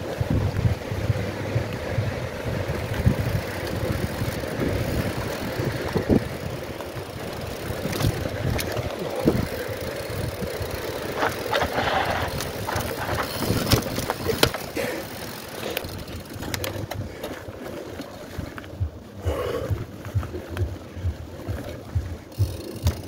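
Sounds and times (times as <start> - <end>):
bike tyres rumbling and rattling: 0.0 - 23.0
wind buffeting microphone: 0.0 - 23.0.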